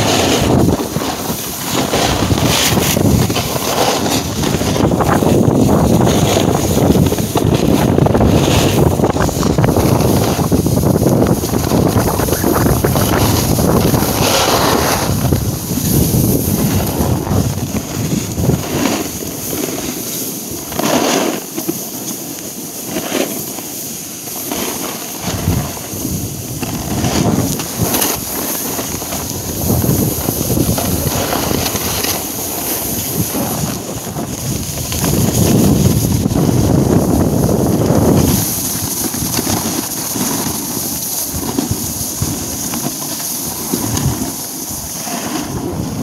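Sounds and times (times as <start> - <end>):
wind buffeting microphone: 0.0 - 20.0, 25.2 - 46.0.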